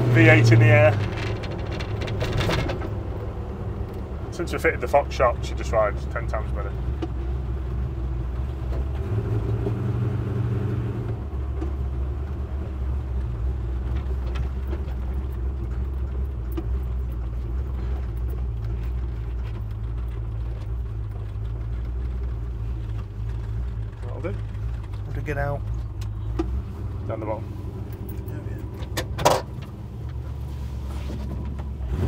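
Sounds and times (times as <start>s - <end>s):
truck engine humming: 0.0s - 32.0s.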